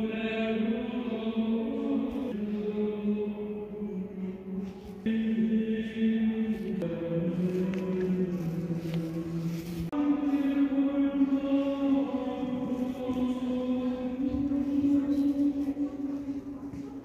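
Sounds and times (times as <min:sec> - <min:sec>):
slow chant-like singing: 0:00.0 - 0:17.0.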